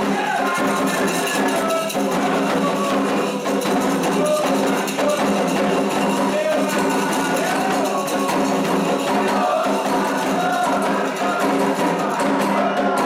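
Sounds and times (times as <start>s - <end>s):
hand drums playing: 0.0s - 13.0s
struck percussion pattern: 0.0s - 13.0s
voices singing: 0.0s - 13.0s.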